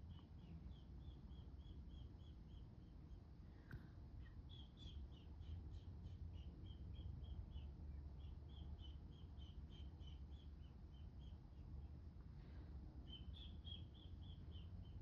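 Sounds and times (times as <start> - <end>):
small bird chirping: 0.0 - 3.2, 4.2 - 11.8, 13.0 - 15.0.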